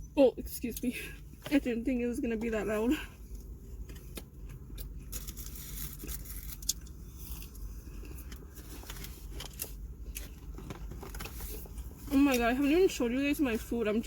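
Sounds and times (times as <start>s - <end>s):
car interior hum: 0.0s - 14.0s.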